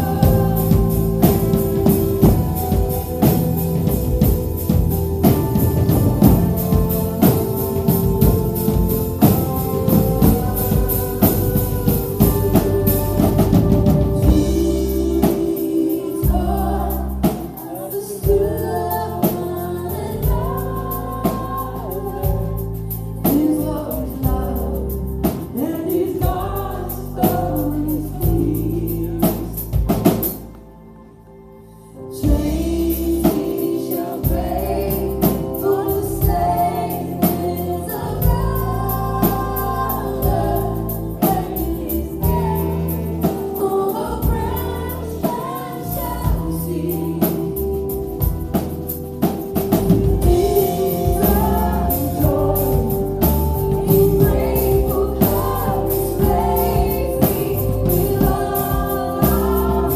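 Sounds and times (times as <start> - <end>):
women singing: 0.0 - 30.5, 32.0 - 48.8, 49.5 - 59.9
worship band playing: 0.0 - 59.9.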